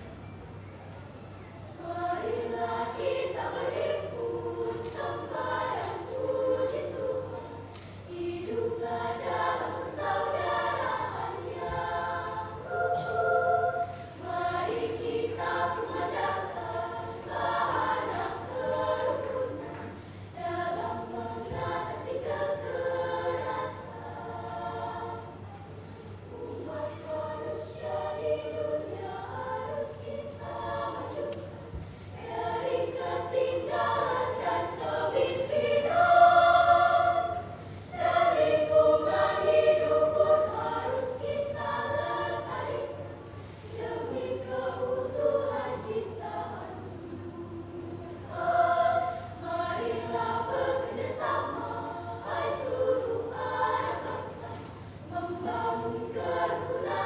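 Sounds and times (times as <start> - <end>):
children's choir singing: 1.6 - 57.0.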